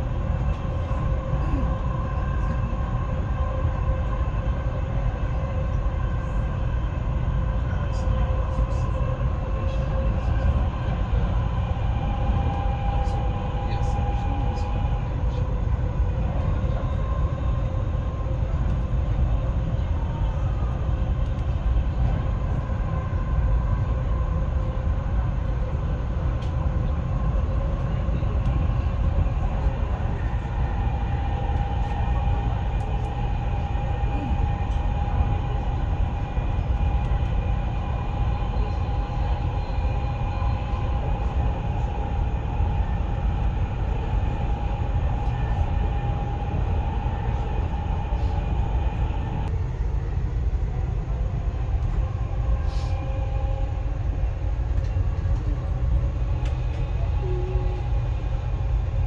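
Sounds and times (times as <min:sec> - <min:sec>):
train rumble: 0:00.0 - 0:59.0
train whine: 0:00.0 - 0:59.0.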